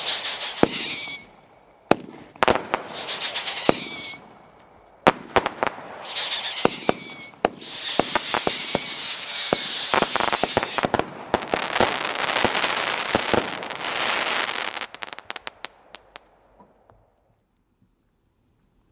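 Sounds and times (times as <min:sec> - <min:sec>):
firework whistles: 0:00.0 - 0:15.3
firework crackling and pops: 0:00.0 - 0:17.4.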